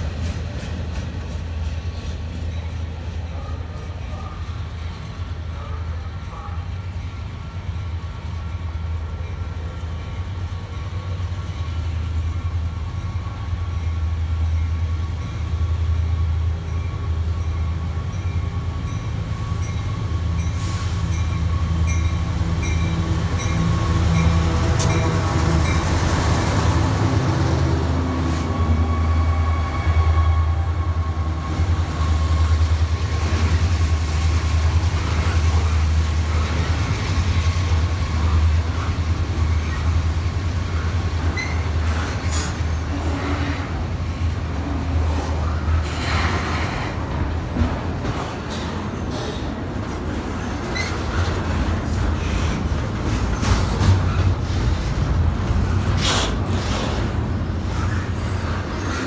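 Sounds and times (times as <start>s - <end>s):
diesel locomotive engine drone: 0.0s - 59.0s
freight cars rumbling on rails: 0.0s - 59.0s.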